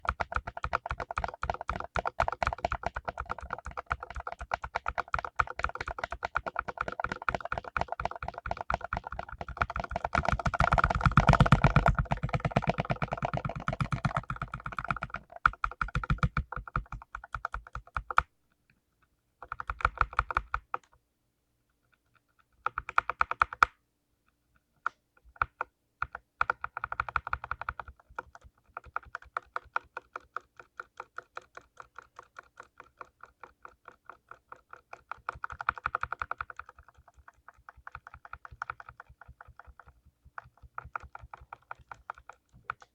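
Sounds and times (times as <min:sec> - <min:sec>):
mechanical keyboard typing: 0:00.0 - 0:18.3, 0:19.4 - 0:21.0, 0:22.6 - 0:23.7, 0:25.4 - 0:42.9.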